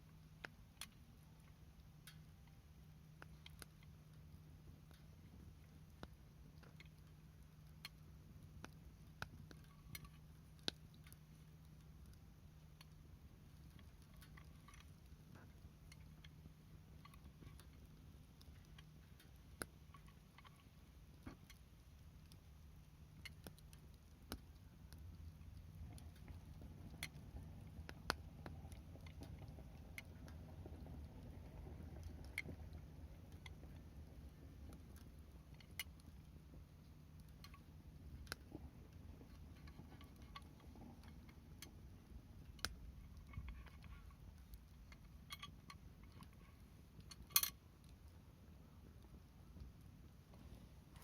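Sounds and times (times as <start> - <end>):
low steady rumble: 0.0 - 51.0
wood fire crackling and popping: 0.0 - 51.0.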